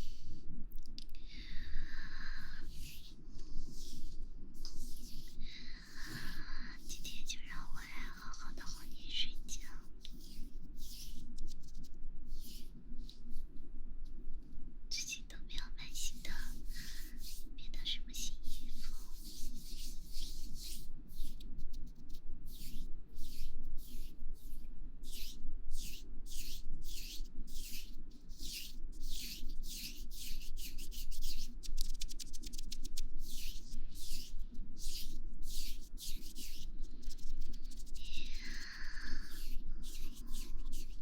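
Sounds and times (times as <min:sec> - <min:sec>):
rubbing against microphone: 0:02.3 - 0:13.6, 0:15.6 - 0:41.0.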